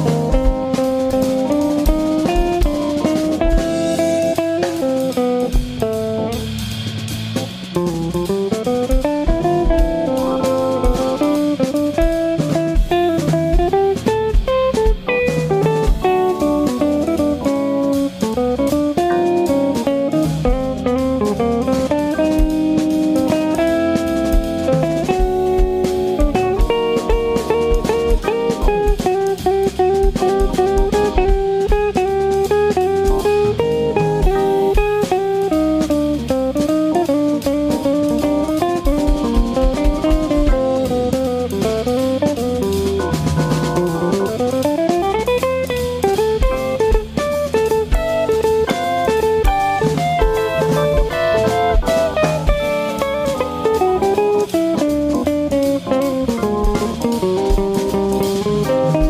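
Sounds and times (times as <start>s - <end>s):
guitar lines: 0.0s - 59.0s
steady drumming: 0.0s - 59.0s.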